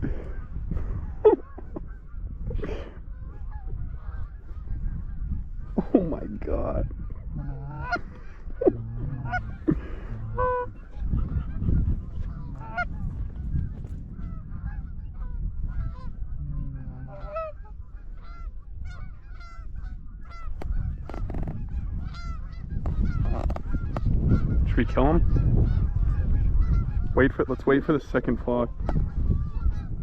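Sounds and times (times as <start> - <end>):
geese honking: 3.0 - 13.6, 14.2 - 27.6, 28.7 - 30.0.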